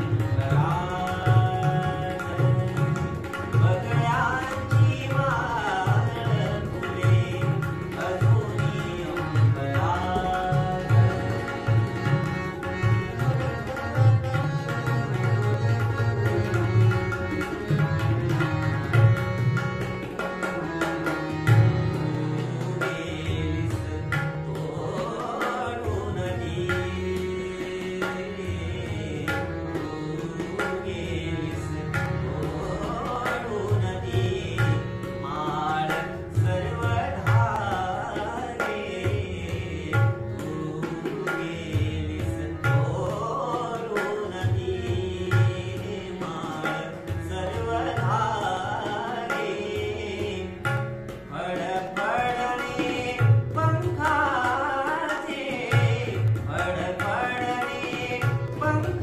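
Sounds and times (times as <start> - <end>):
harmonium sustained notes: 0.0 - 59.0
tabla rhythm: 0.0 - 59.0
young man singing: 0.0 - 59.0.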